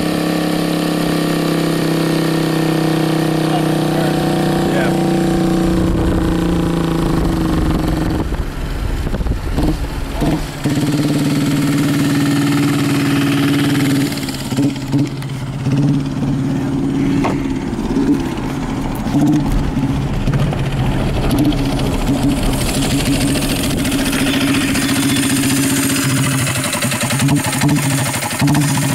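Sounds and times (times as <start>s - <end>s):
motorcycle diesel engine running: 0.0s - 28.9s
engine knocks: 3.4s - 28.9s.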